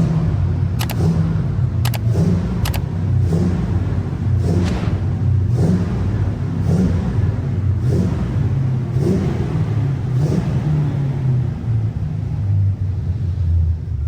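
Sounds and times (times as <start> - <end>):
car engine rumbling while driving: 0.0 - 14.0.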